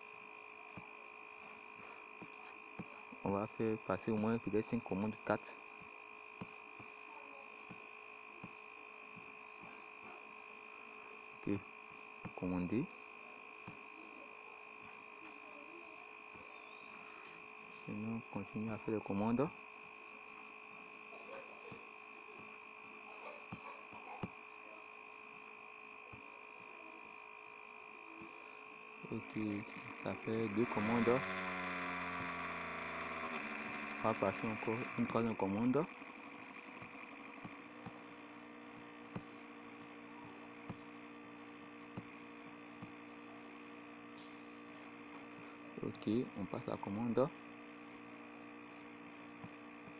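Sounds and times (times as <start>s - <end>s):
electrical hum with high whine: 0.0s - 49.9s.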